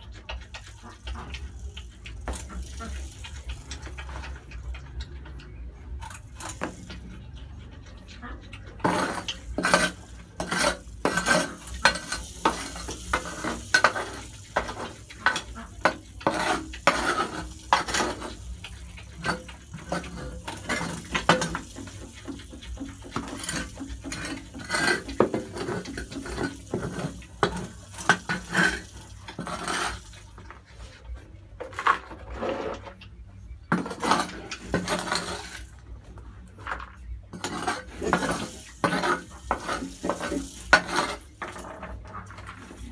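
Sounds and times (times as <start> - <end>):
porcupines clicking and clattering: 0.0 - 42.9.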